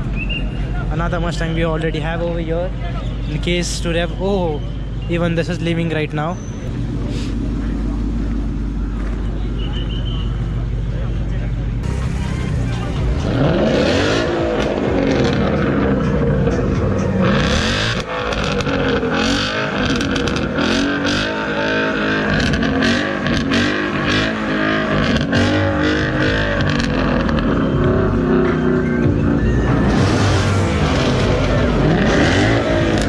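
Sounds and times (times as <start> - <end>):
sports car engines revving: 6.4 - 33.0.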